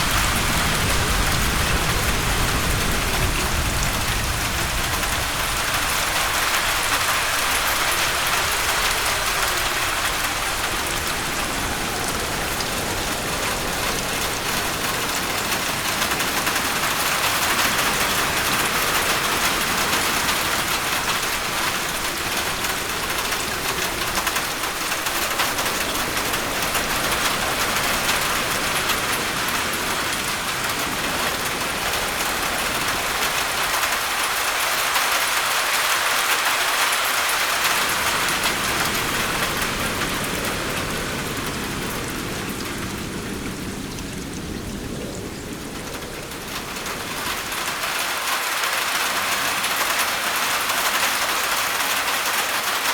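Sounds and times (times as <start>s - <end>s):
heavy rain on a roof: 0.0s - 52.9s.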